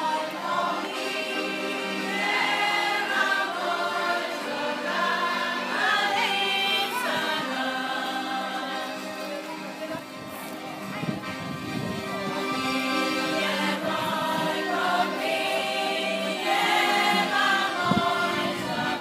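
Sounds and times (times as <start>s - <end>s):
folk group singing in chorus: 0.0s - 9.6s, 12.2s - 19.0s
accordion: 0.0s - 19.0s.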